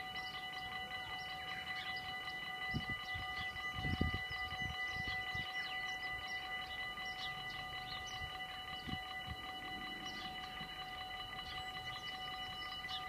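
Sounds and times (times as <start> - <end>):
level crossing warning bells ringing: 0.0 - 13.0.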